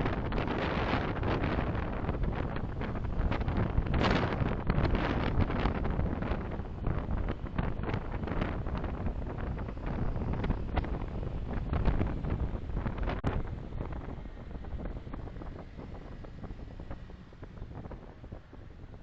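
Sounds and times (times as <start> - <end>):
car road noise rumble: 0.0 - 19.0
wind buffeting microphone: 0.0 - 19.0.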